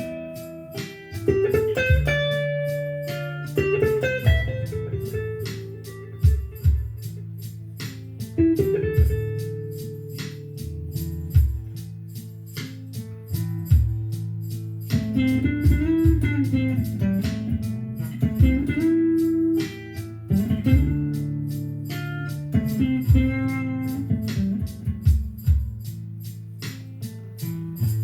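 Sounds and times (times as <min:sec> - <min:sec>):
blues guitar: 0:00.0 - 0:28.0.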